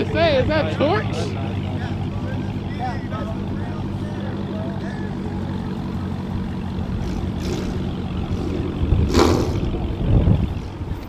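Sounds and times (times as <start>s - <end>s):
car engine droning: 0.0s - 11.0s
engine surge: 0.0s - 11.0s.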